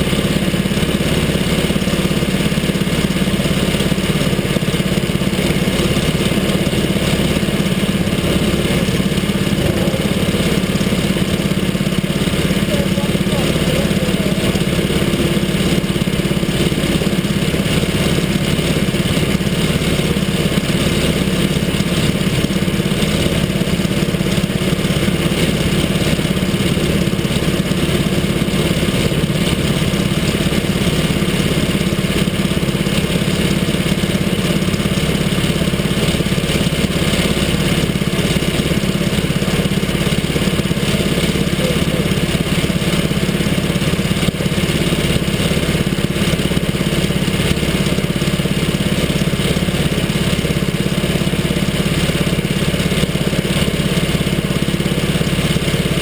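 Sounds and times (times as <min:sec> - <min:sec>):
small kart engine idling: 0:00.0 - 0:56.0.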